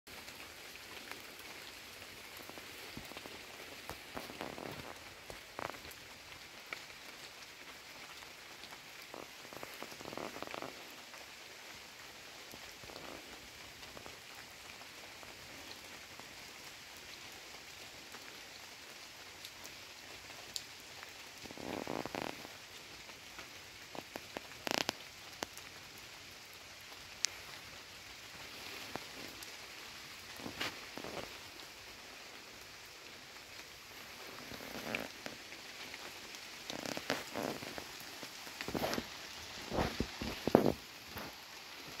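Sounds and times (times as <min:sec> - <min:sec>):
light rain hissing: 0:00.1 - 0:42.0.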